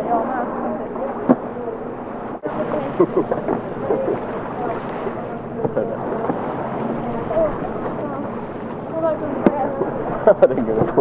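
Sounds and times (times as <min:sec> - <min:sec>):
indistinct voices: 0:00.0 - 0:11.0.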